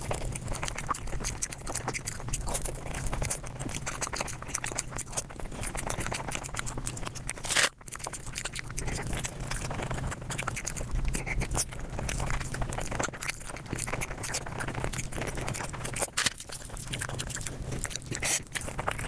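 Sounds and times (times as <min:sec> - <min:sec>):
rapid crunching and chewing: 0:00.0 - 0:19.0.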